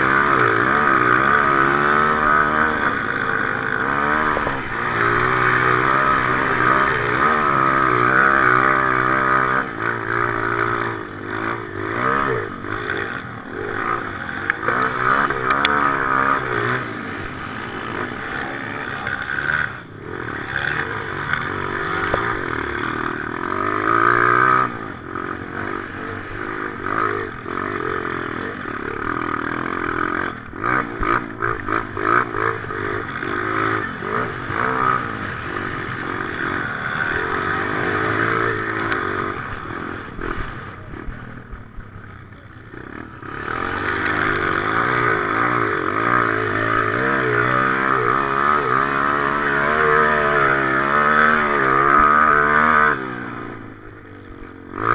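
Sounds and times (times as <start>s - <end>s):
motorcycle engine revving: 0.0s - 54.9s
motorcycle rattling: 0.0s - 54.9s.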